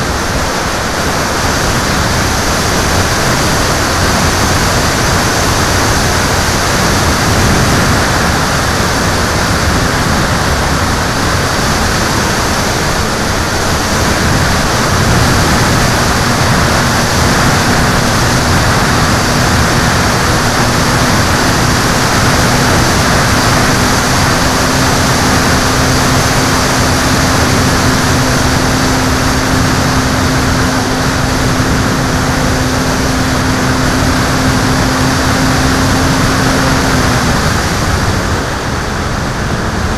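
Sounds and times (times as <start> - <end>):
aircraft motor and propeller hum: 0.0 - 39.9
wind rushing: 0.0 - 39.9.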